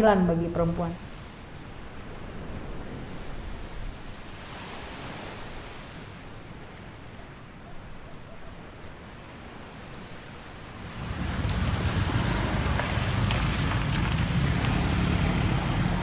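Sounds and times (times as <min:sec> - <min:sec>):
small waves washing onto beach: 0:01.0 - 0:07.5, 0:08.8 - 0:16.0.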